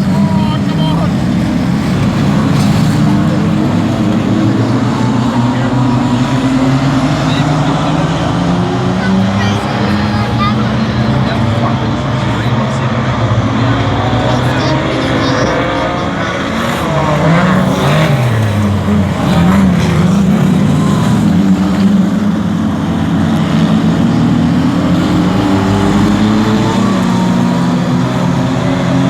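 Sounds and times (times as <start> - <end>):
race car engines: 0.0 - 29.0.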